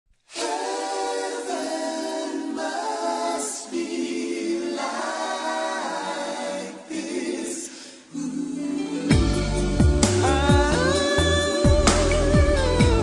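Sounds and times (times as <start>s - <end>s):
a cappella singing: 0.3s - 13.0s.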